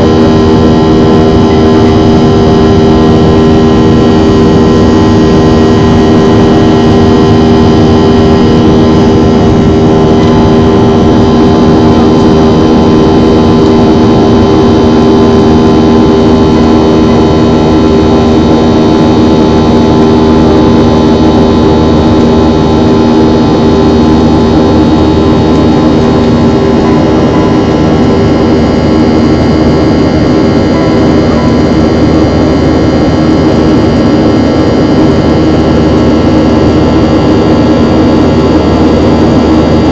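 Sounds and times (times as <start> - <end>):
jet engines roaring: 0.0 - 39.9
whining engine tones: 0.0 - 39.9.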